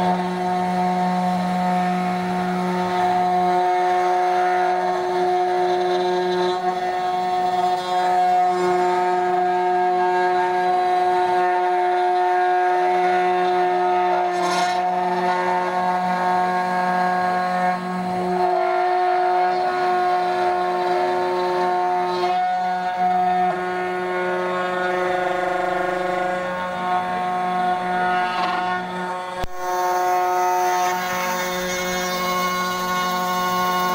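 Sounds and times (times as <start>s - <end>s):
rough cutting noise: 0.0s - 33.9s
router spindle whine: 0.0s - 33.9s.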